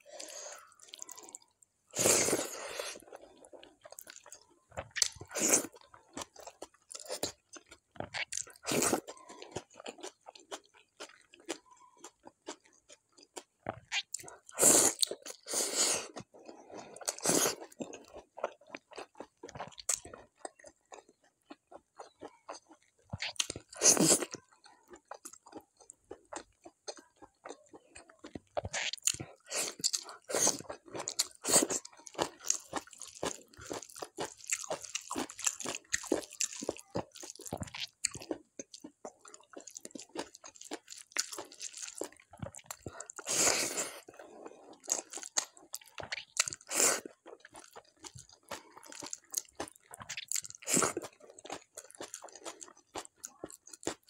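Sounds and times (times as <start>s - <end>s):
crunchy food chewing: 0.0s - 54.0s.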